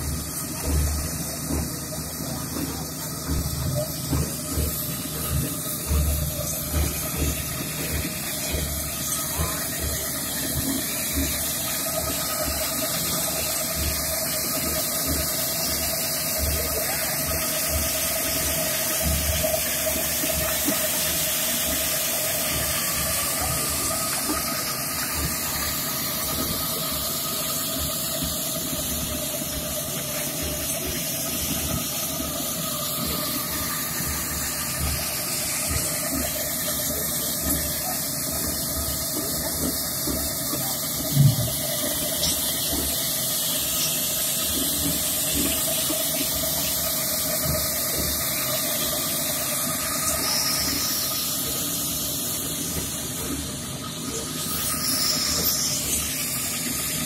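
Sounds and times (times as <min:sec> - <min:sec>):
motor hum: 0:00.0 - 0:57.0
power trowel hiss: 0:00.0 - 0:57.0.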